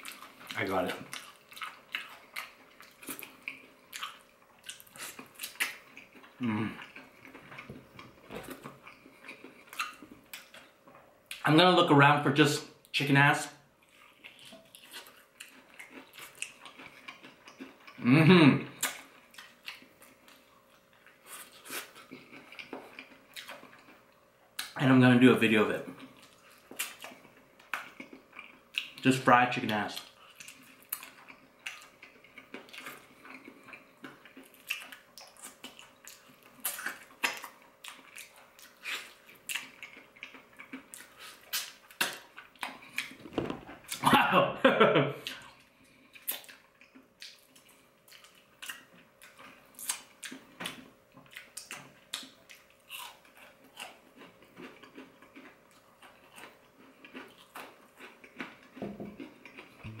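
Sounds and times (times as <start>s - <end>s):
crunchy chewing: 0.0s - 11.4s, 13.8s - 18.0s, 18.7s - 24.8s, 25.8s - 29.1s, 29.9s - 44.1s, 45.2s - 60.0s.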